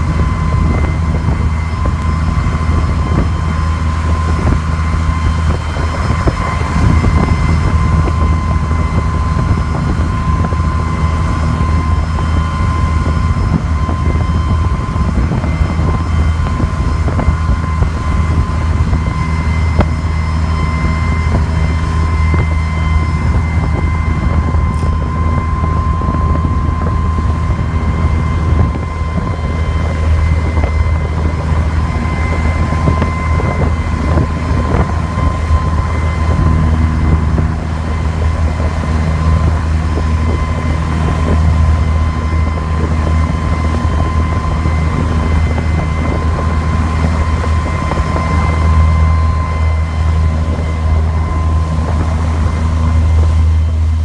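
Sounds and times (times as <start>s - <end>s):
boat engine droning: 0.0s - 54.0s
thin whine: 0.0s - 54.0s
wind noise on microphone: 0.0s - 54.0s.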